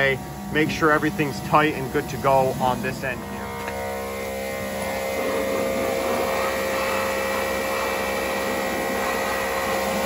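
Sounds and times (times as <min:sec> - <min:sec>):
pressure washer motor whine: 0:00.0 - 0:10.0
water jet hissing: 0:00.0 - 0:10.0.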